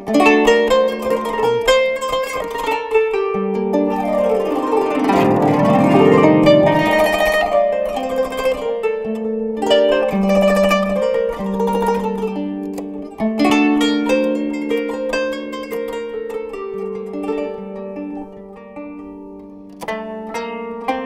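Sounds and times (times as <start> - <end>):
plucked zither melody: 0.0 - 21.0.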